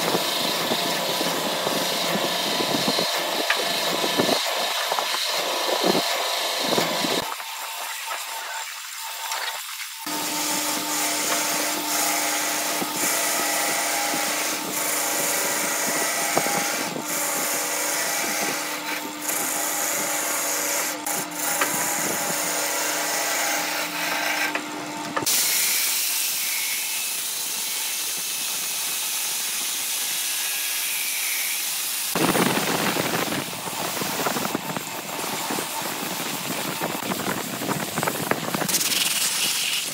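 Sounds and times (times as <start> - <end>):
wood lathe humming: 0.0 - 9.4, 10.0 - 39.9
sanding drum hissing: 0.0 - 24.6, 25.2 - 39.9
turning tool scraping wood: 0.1 - 26.8, 32.1 - 39.9.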